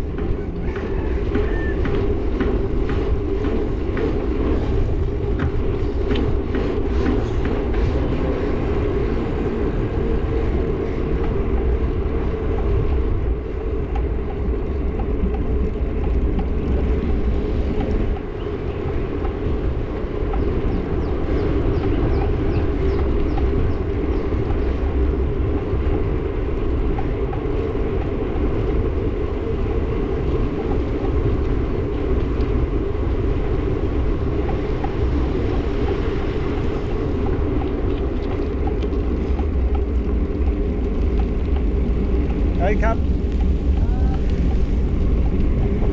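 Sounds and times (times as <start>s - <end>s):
road and traffic noise: 0.0s - 45.9s
wind on microphone: 0.0s - 45.9s.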